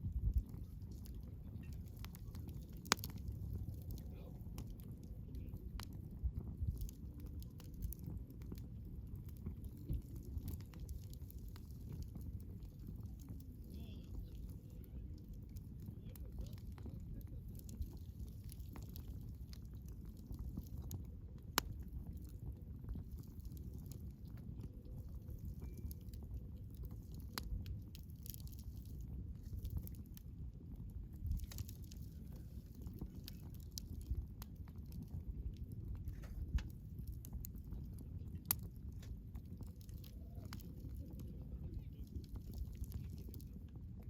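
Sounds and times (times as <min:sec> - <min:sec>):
burning wood crackling: 0:00.0 - 0:44.0
campfire flames rumbling: 0:00.0 - 0:44.0.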